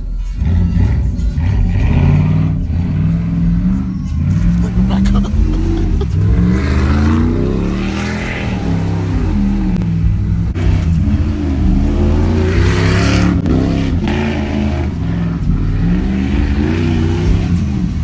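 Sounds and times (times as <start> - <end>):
tires spinning in loose dirt: 0.3 - 18.0
pickup engine revving: 0.4 - 18.0.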